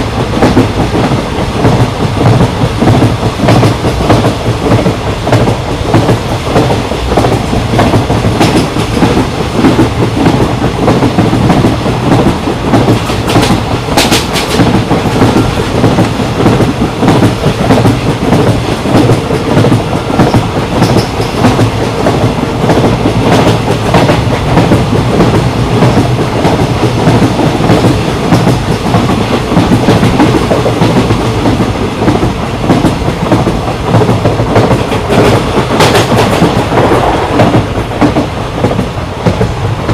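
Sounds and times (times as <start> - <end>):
clickety-clack of train wheels: 0.0 - 39.9
train coaches rumbling: 0.0 - 39.9.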